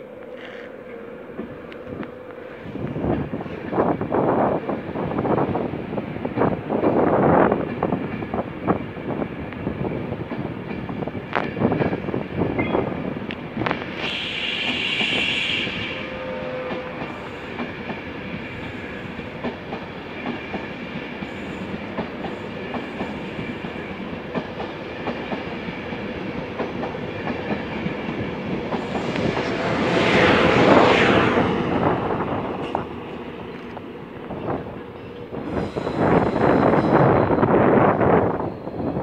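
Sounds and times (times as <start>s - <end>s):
electric locomotive passing: 0.0s - 39.0s
train wheels rushing on rails: 0.0s - 39.0s.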